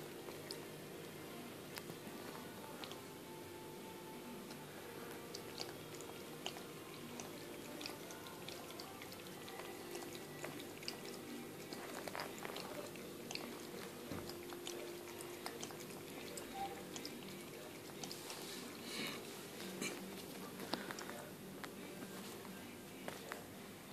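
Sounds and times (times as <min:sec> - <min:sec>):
cat lapping water: 0:00.0 - 0:03.1, 0:04.3 - 0:22.6
pet fountain low hum: 0:00.0 - 0:23.9.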